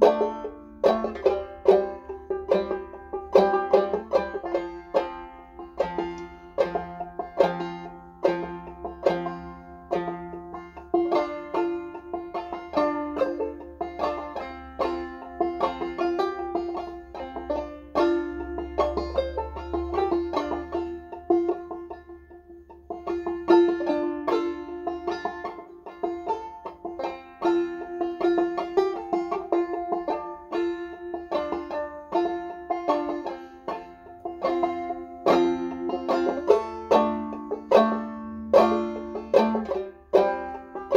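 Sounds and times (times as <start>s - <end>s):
banjo plucking and strumming: 0.0s - 40.9s.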